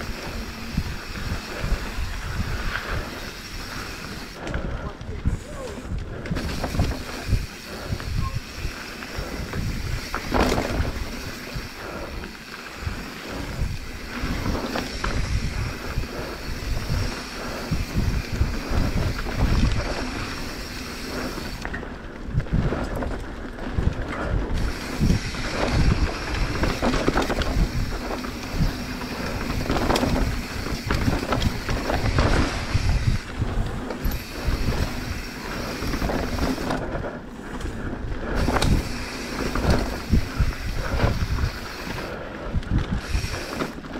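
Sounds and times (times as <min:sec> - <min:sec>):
bike rattling over bumps: 0:00.0 - 0:43.9
bike tyres on dirt: 0:00.0 - 0:43.9
wind rushing over microphone: 0:00.0 - 0:43.9.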